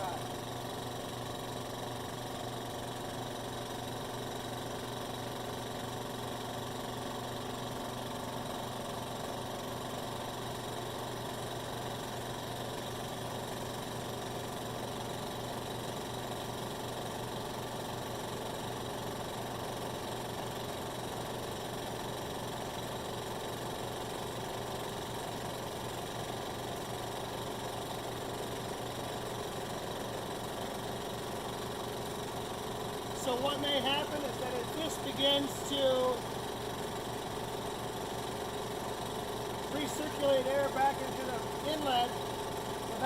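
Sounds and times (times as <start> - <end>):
belt-driven pump running: 0.0 - 43.0.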